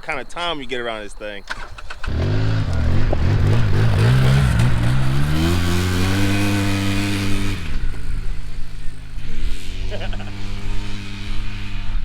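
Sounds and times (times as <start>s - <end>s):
kart engine revving: 1.5s - 12.0s.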